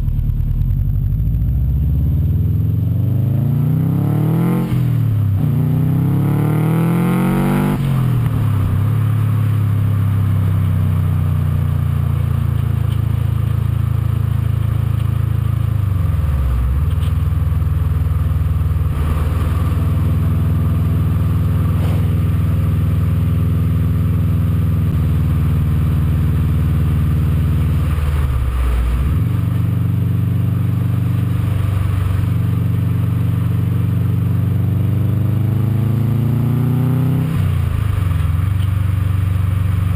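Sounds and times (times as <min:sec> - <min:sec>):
car engine exhaust revving: 0:00.0 - 0:39.9.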